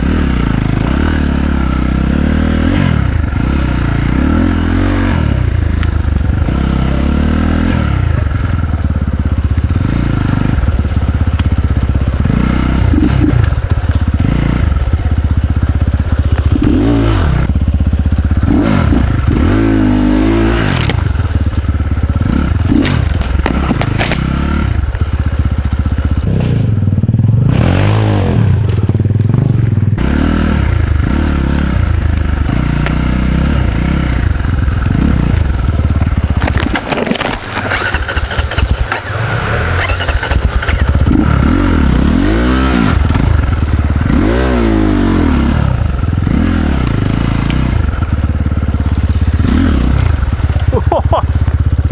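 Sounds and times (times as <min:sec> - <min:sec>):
dirt bike engine revving: 0:00.0 - 0:51.9
bike clattering over rough ground: 0:07.9 - 0:26.3, 0:28.6 - 0:51.9.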